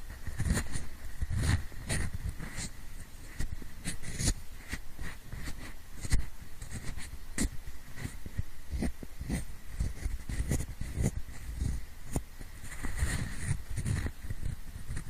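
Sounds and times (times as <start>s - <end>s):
pencil scratching close to microphone: 0.0s - 15.0s.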